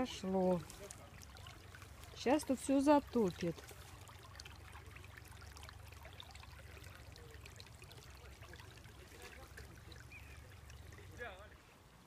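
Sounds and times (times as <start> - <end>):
water trickling over ground: 0.0 - 12.0.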